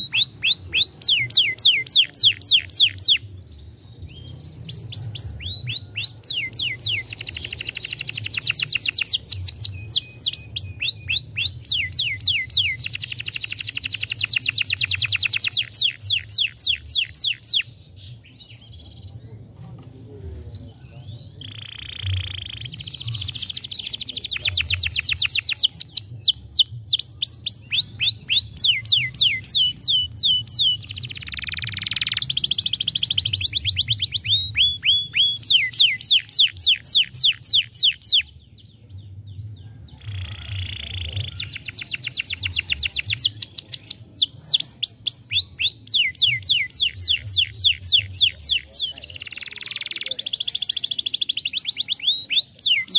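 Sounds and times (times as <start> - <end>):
canary singing trills: 0.0 - 19.4, 20.6 - 52.9.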